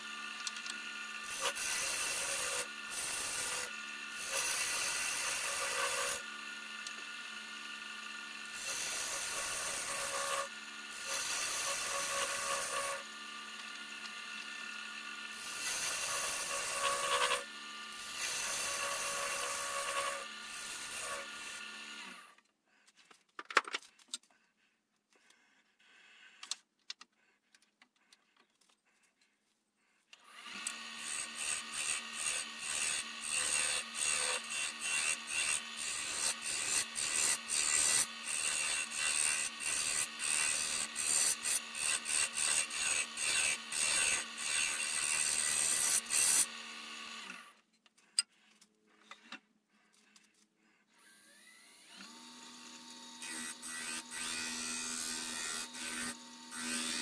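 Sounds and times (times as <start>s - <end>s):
wood lathe cutting wood: 0.0s - 22.3s, 30.2s - 47.6s, 51.0s - 57.0s.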